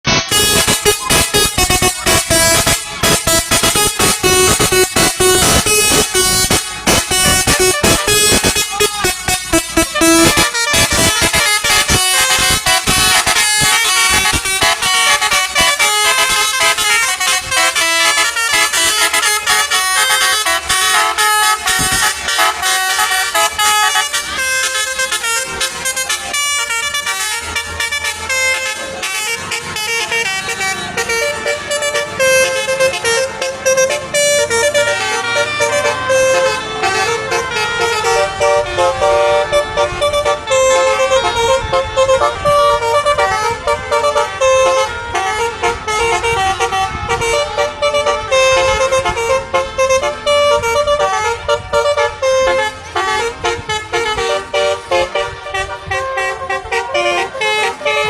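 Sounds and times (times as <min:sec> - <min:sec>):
multi-tone horns playing melodies: 0:00.0 - 0:58.0.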